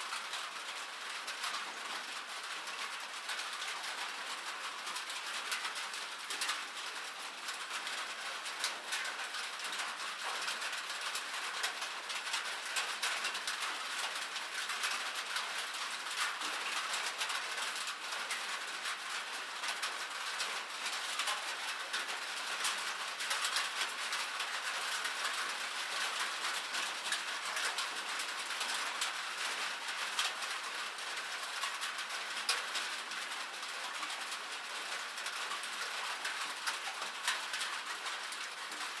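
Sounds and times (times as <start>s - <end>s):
light rain pattering: 0.0s - 39.0s.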